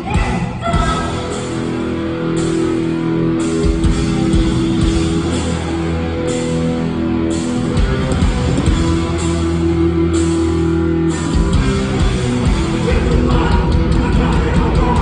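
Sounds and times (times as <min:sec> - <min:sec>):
distorted electric guitar chords: 0:00.0 - 0:15.0
drums: 0:00.0 - 0:15.0.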